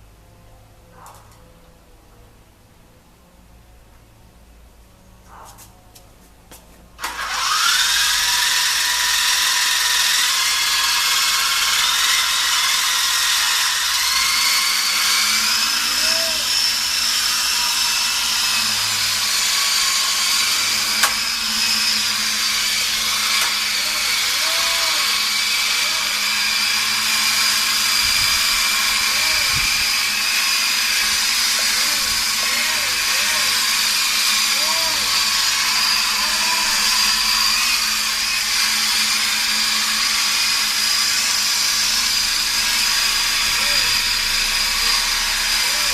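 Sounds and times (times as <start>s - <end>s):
helicopter motor high whine: 7.0s - 45.9s.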